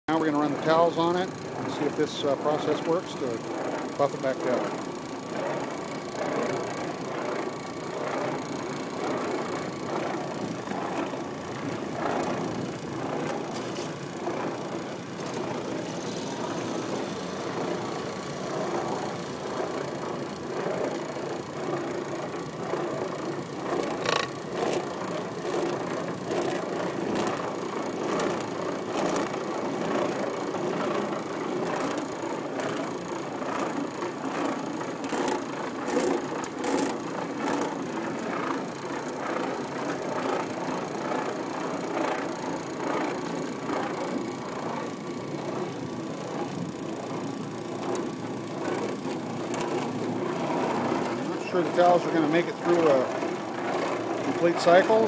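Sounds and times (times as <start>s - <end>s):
floor machine motor running: 0.1s - 55.0s
sharp clicks and rattles: 0.1s - 55.0s.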